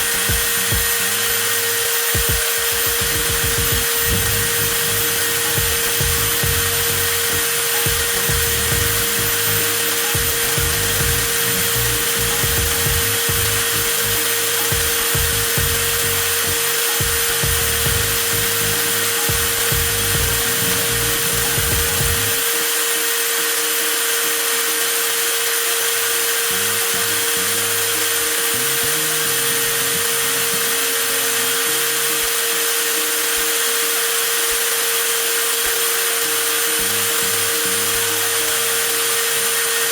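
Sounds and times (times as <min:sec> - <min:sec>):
angle grinder motor whining: 0:00.0 - 0:39.9.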